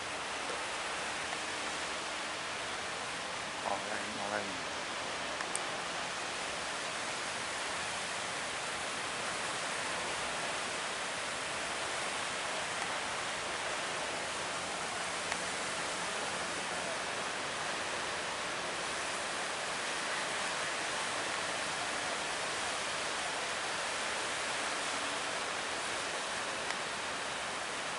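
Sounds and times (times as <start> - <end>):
wind and water rushing at sea: 0.0 - 27.9.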